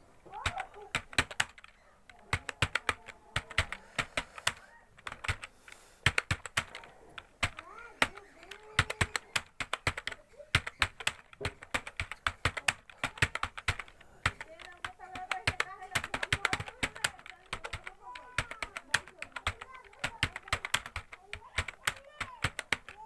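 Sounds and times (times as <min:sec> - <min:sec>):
computer keyboard typing: 0:00.1 - 0:23.0.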